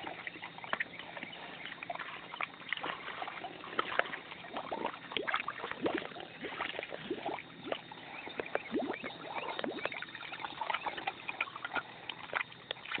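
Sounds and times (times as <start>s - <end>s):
pig eating with wet slurps: 0.0s - 13.0s.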